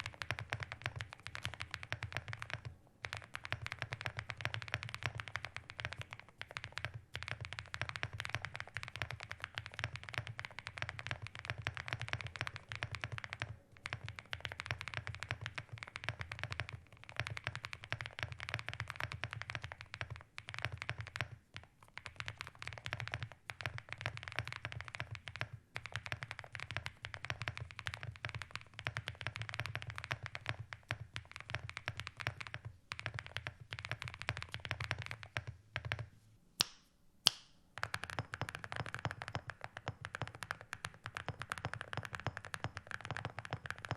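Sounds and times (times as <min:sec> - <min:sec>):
mechanical keyboard typing: 0:00.0 - 0:36.1, 0:37.8 - 0:43.9.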